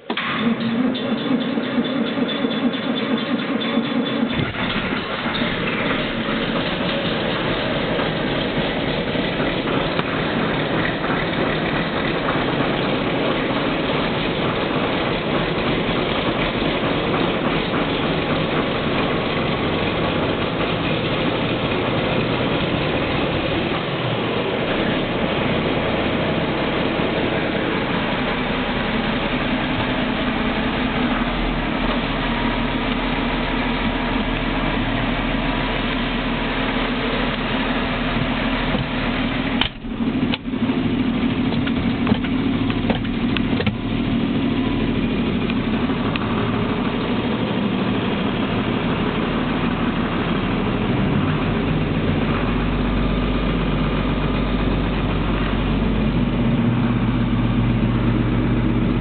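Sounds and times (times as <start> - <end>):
deeper steady engine note: 0.0 - 59.0
diesel tractor engine running: 0.0 - 59.0.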